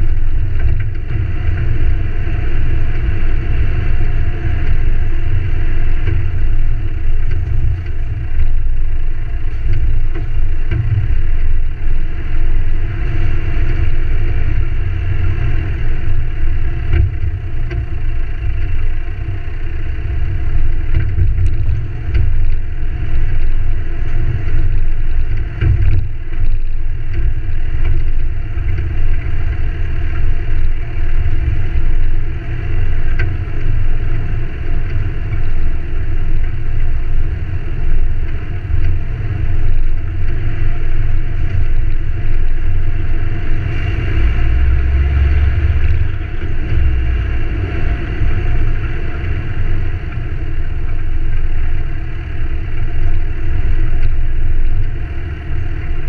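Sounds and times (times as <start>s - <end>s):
truck rumbling on dirt track: 0.0s - 56.0s.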